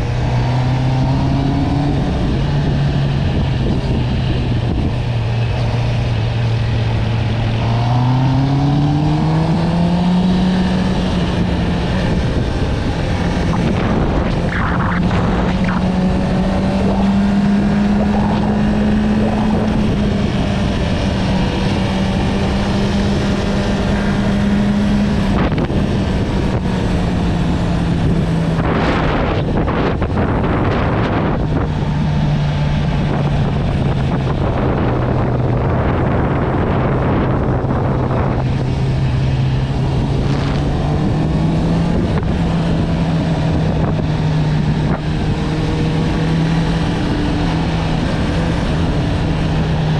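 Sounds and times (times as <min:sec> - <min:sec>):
wind buffeting microphone: 0:00.0 - 0:49.9
motorcycle engine running: 0:01.6 - 0:49.9.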